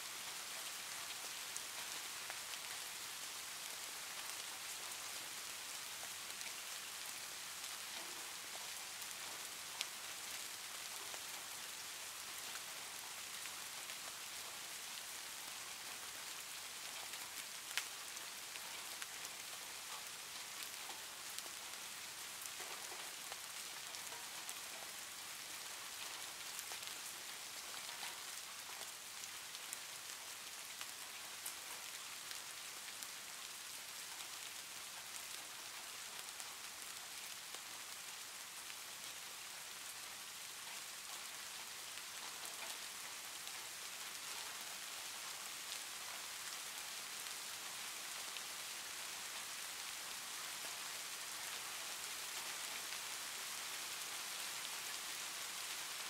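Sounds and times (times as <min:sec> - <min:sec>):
soft steady rain: 0:00.0 - 0:56.0.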